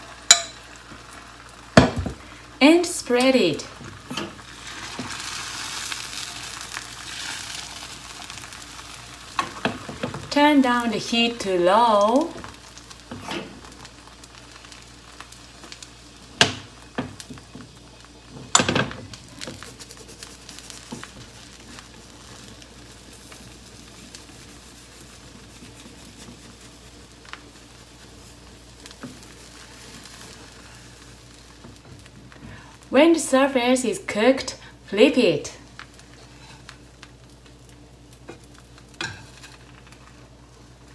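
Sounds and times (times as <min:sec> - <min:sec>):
egg sizzling in frying pan: 0:00.0 - 0:40.9.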